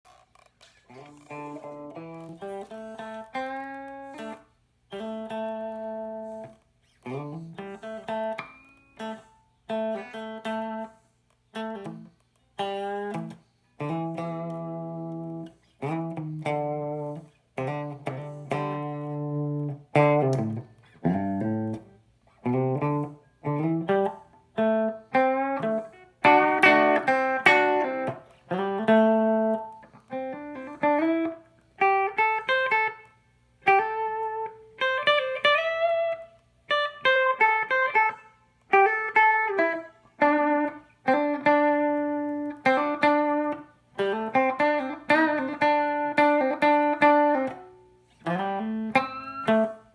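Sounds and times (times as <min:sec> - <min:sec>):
electric guitar noodling: 0:00.1 - 0:49.9.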